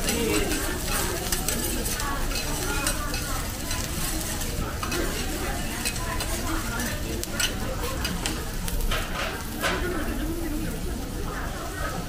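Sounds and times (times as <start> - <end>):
metal spatulas scraping on griddle: 0.0 - 9.9
sizzle from hot plate: 0.0 - 12.0.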